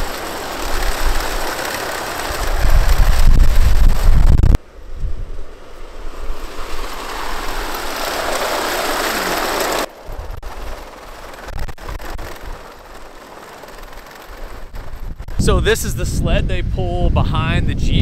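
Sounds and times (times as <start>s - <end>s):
snow tracks rushing over snow: 0.0s - 4.6s, 5.4s - 16.1s.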